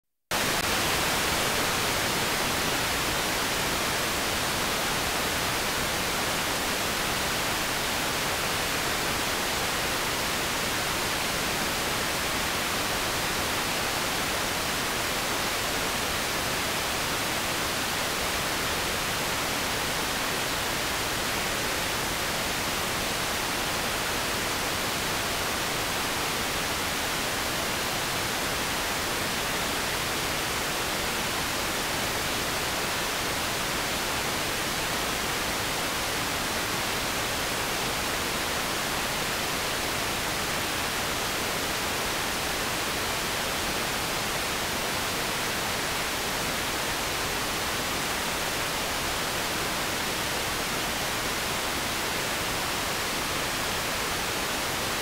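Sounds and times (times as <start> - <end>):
television static hiss: 0.3 - 55.0.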